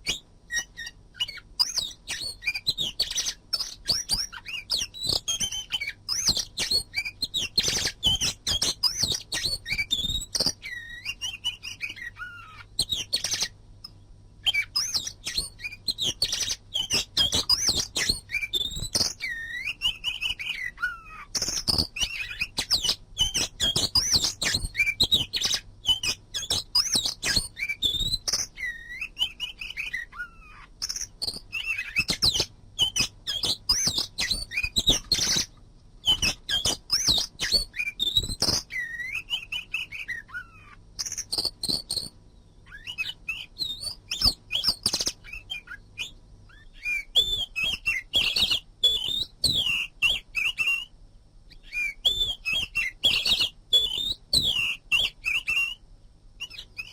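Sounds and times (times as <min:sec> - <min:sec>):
songbird singing whistled phrases: 0:00.0 - 0:13.6, 0:14.4 - 0:55.8, 0:56.4 - 0:56.9.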